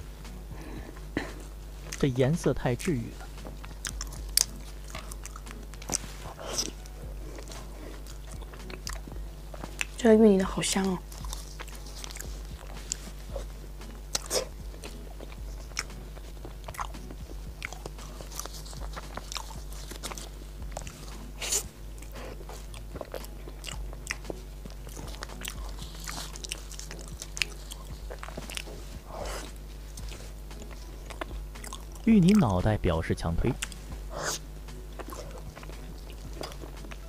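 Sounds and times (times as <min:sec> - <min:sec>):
steady low hum: 0:00.0 - 0:37.0
person chewing: 0:00.2 - 0:02.1, 0:02.9 - 0:10.0, 0:10.9 - 0:32.4, 0:33.5 - 0:37.0.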